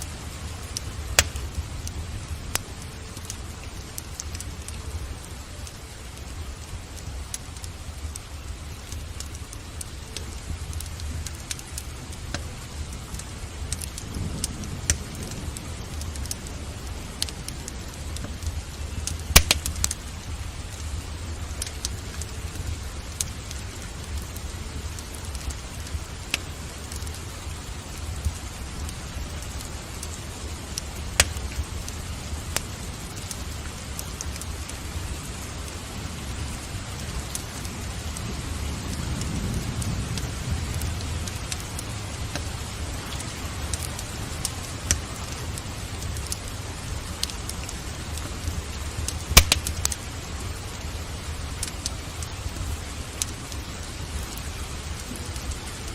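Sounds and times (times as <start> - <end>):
steady rain: 0.0 - 55.9
wood fire crackling and popping: 0.0 - 55.9.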